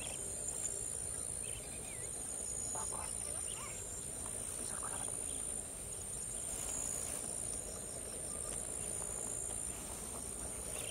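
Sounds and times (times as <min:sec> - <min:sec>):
insect chorus drone: 0:00.0 - 0:10.9
low background noise: 0:00.0 - 0:10.9.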